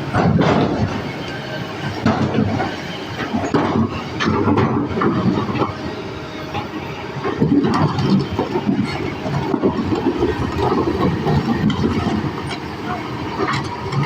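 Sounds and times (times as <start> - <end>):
excavator running: 0.0 - 14.0.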